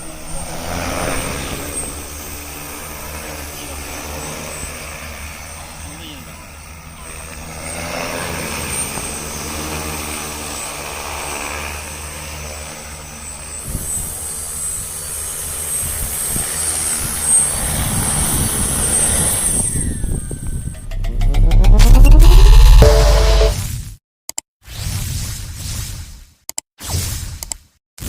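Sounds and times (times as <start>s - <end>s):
drone propellers whirring: 0.0s - 23.6s.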